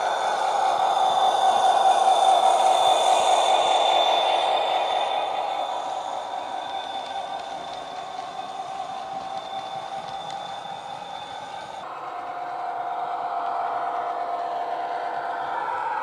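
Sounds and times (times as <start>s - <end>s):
model train diesel engine sound: 0.0s - 16.0s.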